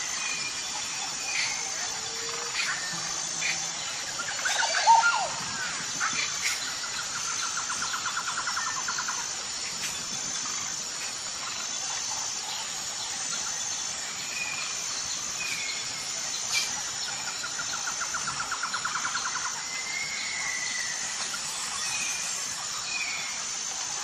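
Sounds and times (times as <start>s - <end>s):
steady high-pitched drone: 0.0s - 24.0s.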